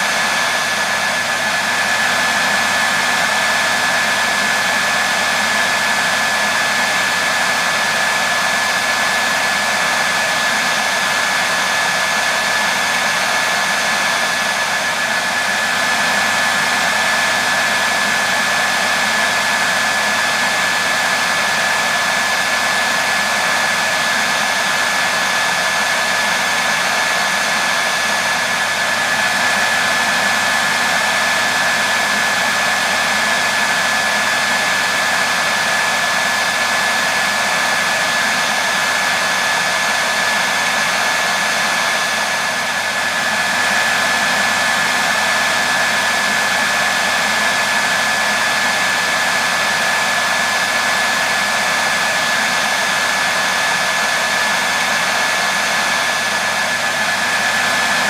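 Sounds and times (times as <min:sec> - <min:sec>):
hairdryer running: 0:00.0 - 0:58.0.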